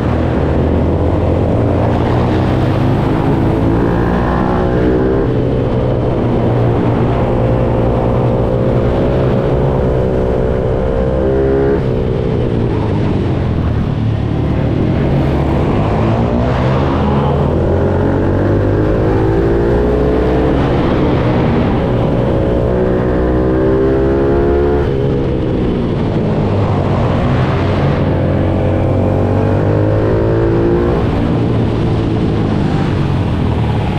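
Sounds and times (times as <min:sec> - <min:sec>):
motorbike engine revving: 0:00.0 - 0:32.8.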